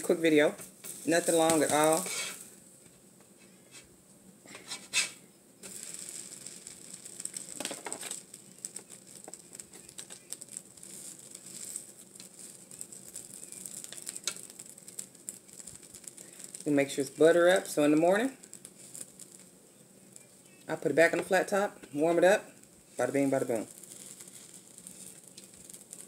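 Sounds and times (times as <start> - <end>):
pancake sizzling on griddle: 0.0 - 26.0.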